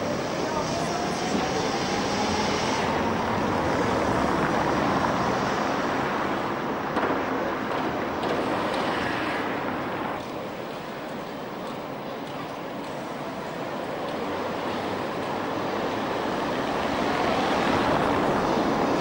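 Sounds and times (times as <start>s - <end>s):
tram rumbling along tracks: 0.0s - 19.0s.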